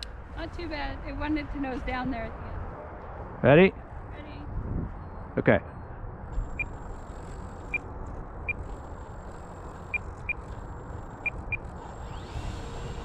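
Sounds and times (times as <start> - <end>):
wind rumble on microphone: 0.0 - 5.2, 6.0 - 13.0.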